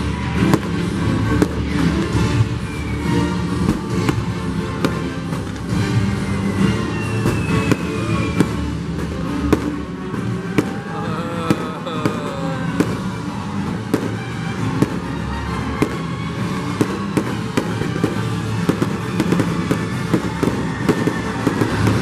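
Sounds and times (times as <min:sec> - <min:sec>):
fireworks bangs and crackling: 0:00.0 - 0:22.0
music soundtrack: 0:00.0 - 0:22.0.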